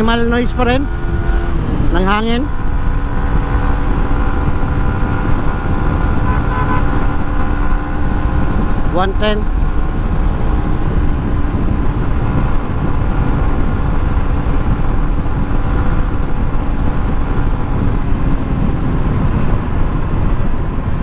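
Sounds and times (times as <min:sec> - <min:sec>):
faint motorcycle engine hum: 0:00.0 - 0:21.0
loud wind rushing on microphone: 0:00.0 - 0:21.0.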